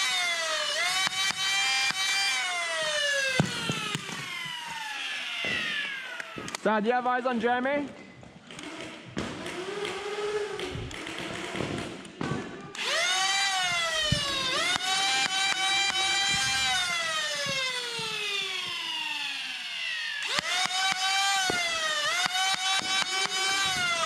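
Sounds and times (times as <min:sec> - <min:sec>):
electric motors whining: 0:00.0 - 0:06.6, 0:08.3 - 0:24.0.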